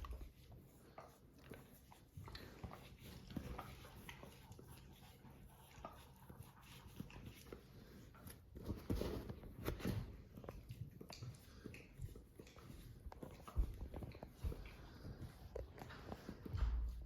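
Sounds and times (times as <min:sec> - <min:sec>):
dogs scuffling: 0:02.4 - 0:17.0.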